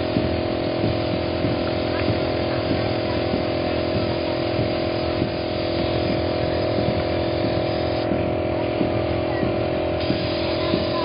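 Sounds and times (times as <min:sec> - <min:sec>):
air compressor motor humming: 0:00.0 - 0:11.0
paint spray gun hissing: 0:00.0 - 0:11.0.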